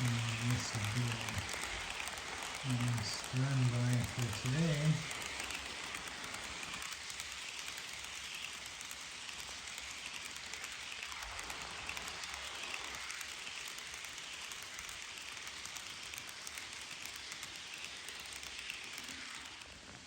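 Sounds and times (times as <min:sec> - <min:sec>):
model train wheels rushing: 0:00.0 - 0:20.0
wheels clicking over rail joints: 0:00.0 - 0:20.0.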